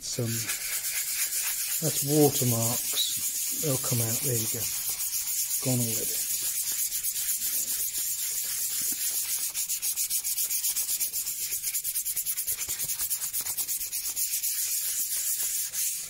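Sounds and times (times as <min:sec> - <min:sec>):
sandpaper rubbing on wood: 0:00.2 - 0:16.0.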